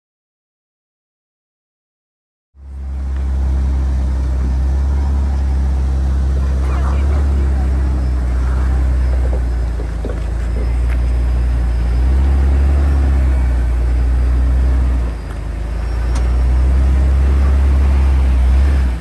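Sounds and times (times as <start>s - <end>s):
vehicle engine running under load: 2.6s - 19.0s.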